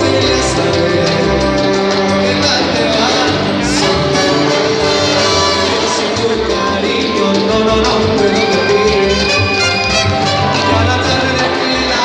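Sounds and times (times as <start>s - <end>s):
dance orchestra playing latin music: 0.0s - 12.0s.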